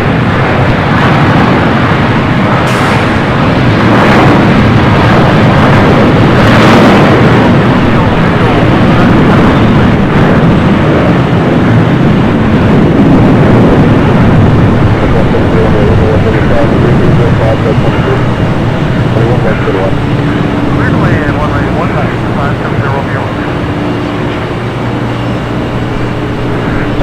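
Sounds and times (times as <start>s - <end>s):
jet airliner engines: 0.0s - 27.0s.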